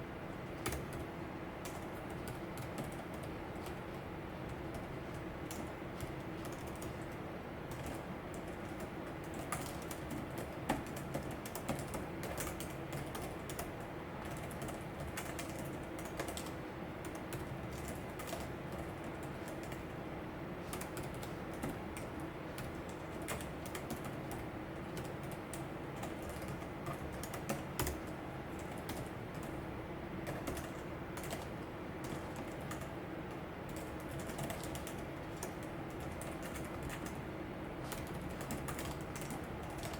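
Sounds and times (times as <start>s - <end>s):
keyboard typing: 0.5s - 39.9s.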